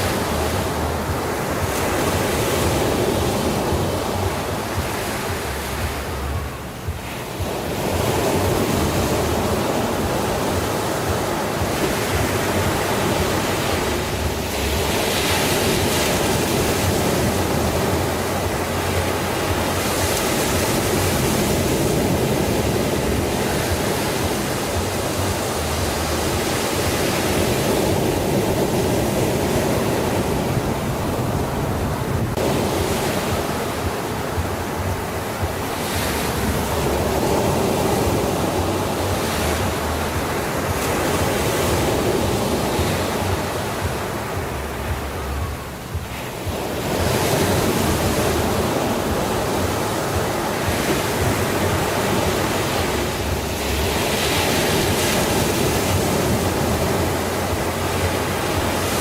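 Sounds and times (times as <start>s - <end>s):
ocean waves washing: 0.0s - 59.0s.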